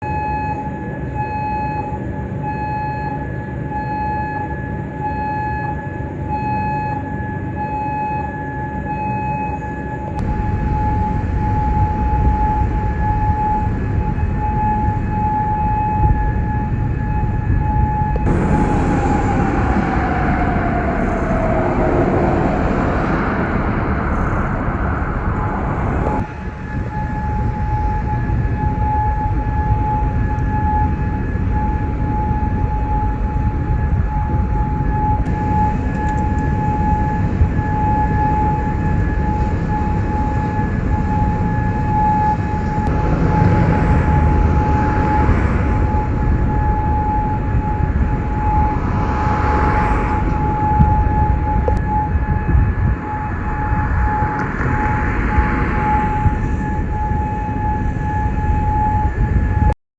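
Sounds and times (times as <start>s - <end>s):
air-raid siren: 0.0s - 59.8s
low background rumble: 0.0s - 59.8s
loud rushing noise: 10.2s - 59.8s.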